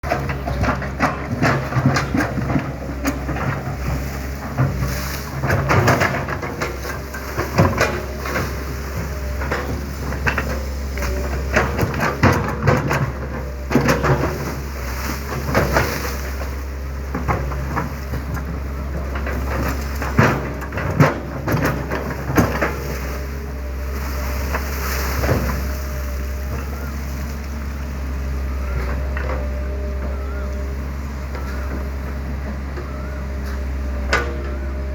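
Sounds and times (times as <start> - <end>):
excavator engine humming: 0.0 - 34.9.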